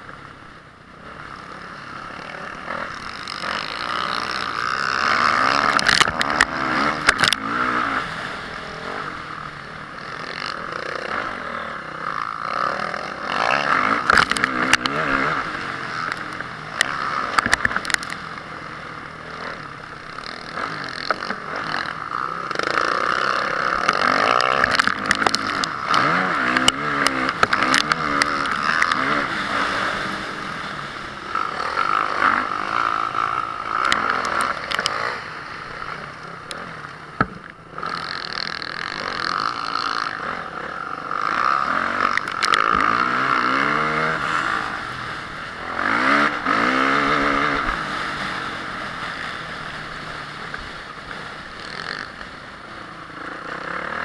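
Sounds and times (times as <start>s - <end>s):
motocross engine revving: 0.9s - 54.0s.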